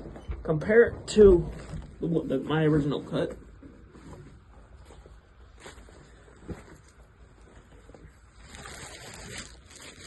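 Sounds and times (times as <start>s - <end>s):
rustling: 1.3s - 10.0s.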